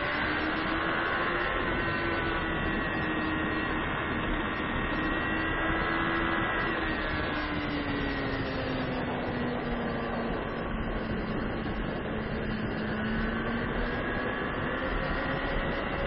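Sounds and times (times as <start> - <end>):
motorcycle engine running hard: 0.0 - 16.0
road noise: 0.0 - 16.0
wind rush: 0.0 - 16.0.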